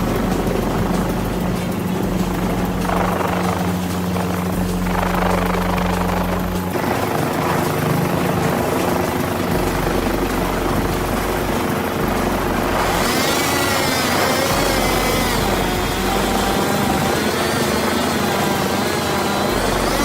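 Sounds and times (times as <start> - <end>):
engine running: 0.0 - 20.0.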